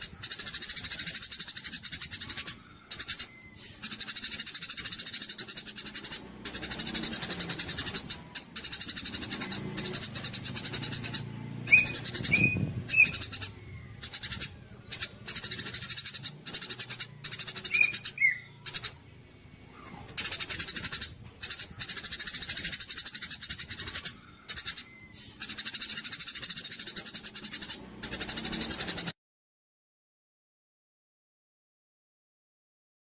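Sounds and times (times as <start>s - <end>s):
songbird singing buzzy trills: 0.0s - 29.2s.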